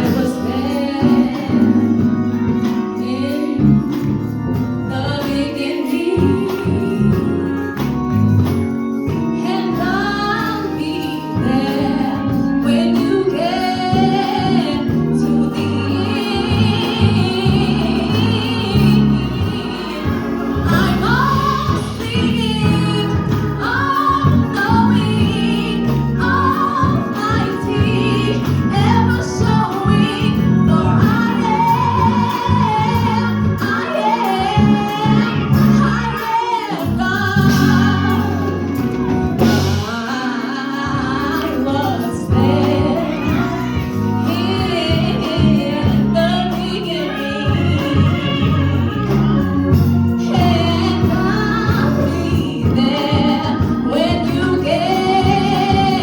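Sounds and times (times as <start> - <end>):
instrumental accompaniment: 0.0 - 56.0
person singing gospel: 0.0 - 56.0.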